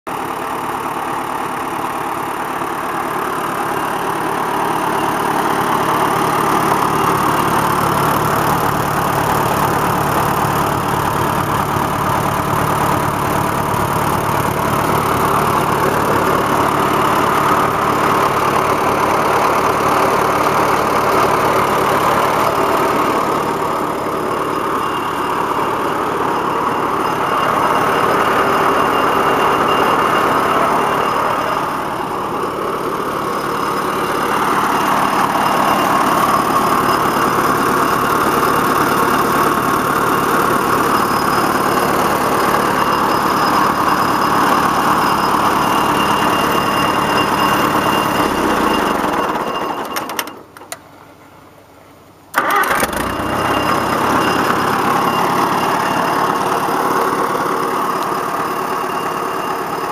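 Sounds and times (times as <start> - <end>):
tractor engine running: 0.1 - 59.9.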